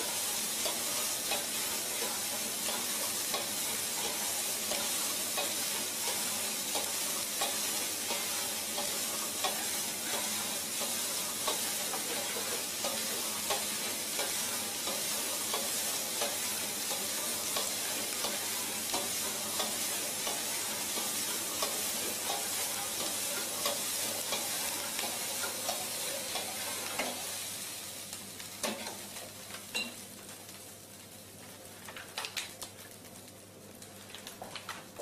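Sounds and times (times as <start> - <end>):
rice sizzling in a wok: 0.0 - 35.0.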